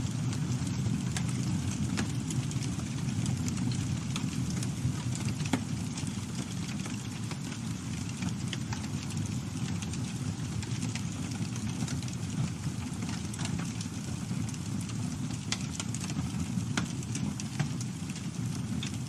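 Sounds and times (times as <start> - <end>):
campfire flames rumbling: 0.0 - 19.0
wood crackling and popping: 0.0 - 19.0.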